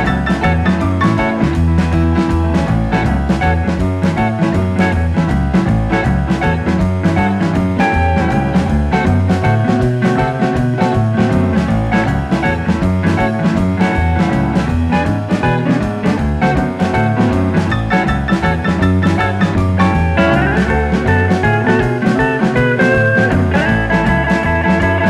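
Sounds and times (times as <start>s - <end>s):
background music with guitar and drums: 0.0s - 25.0s.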